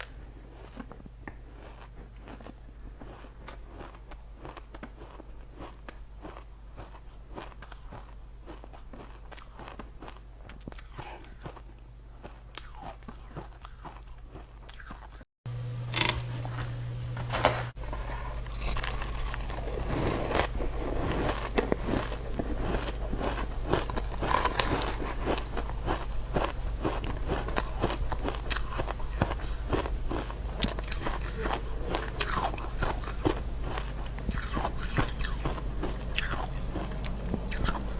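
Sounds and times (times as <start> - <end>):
frost being chewed: 0.0 - 15.2, 17.8 - 37.9.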